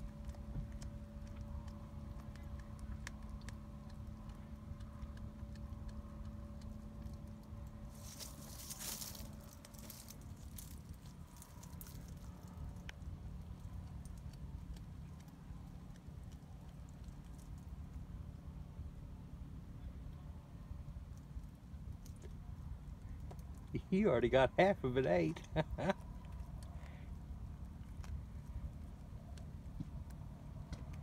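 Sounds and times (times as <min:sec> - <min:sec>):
cat crunching bones: 0:00.0 - 0:19.2, 0:20.8 - 0:31.0
low hum: 0:00.0 - 0:31.0.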